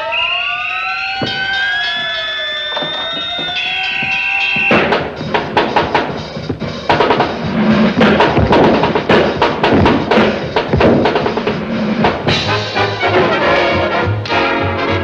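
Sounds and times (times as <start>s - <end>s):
drum and percussion hits: 1.2s - 14.0s.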